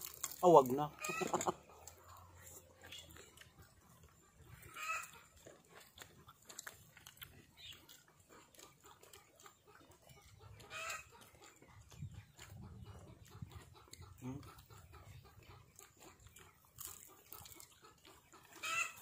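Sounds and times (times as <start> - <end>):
chickens clucking: 0.0 - 19.0
people eating with hands: 0.0 - 19.0.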